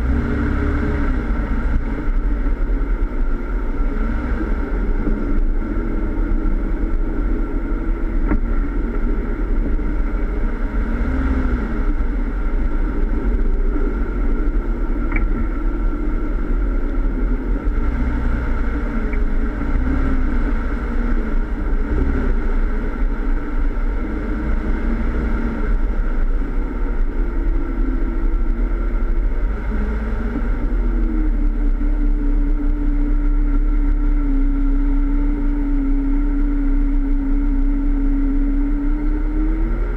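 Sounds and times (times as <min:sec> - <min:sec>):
car engine running at low speed: 0:00.0 - 0:39.9.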